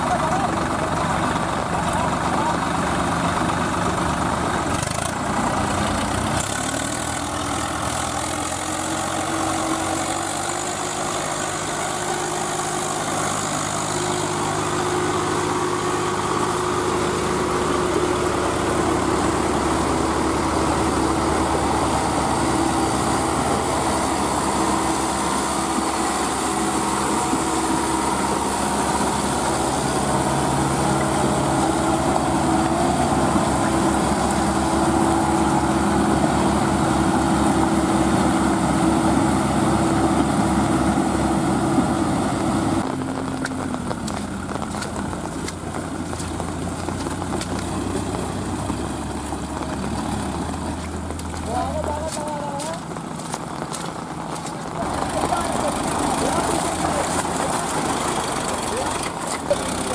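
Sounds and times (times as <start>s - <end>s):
tractor engines running under load: 0.0s - 59.9s.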